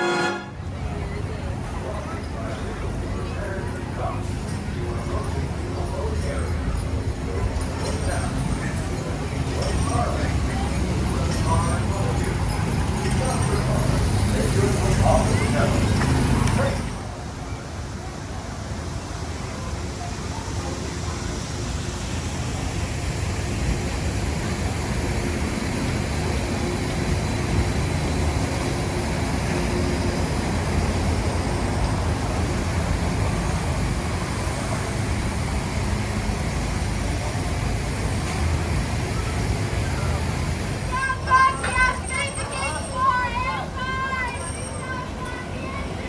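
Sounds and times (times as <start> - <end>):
monorail rumble and hiss: 0.0 - 46.0.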